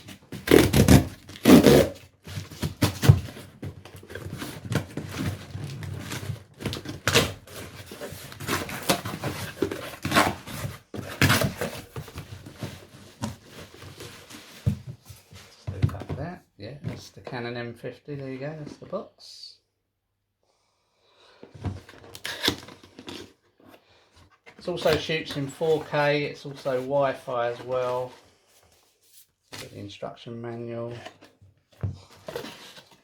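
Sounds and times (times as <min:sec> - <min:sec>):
cardboard rustling and scraping: 0:00.0 - 0:17.1, 0:21.4 - 0:29.8, 0:30.8 - 0:33.0.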